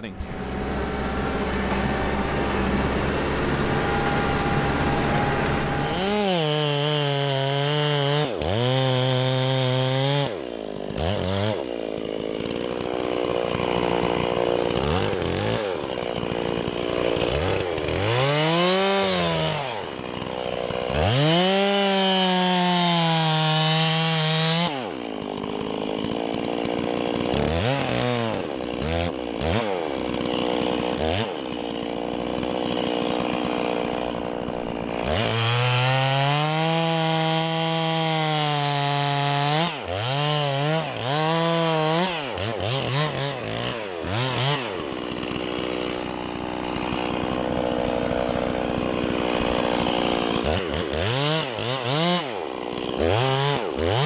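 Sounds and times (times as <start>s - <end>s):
chainsaw revving and idling: 0.0s - 54.0s.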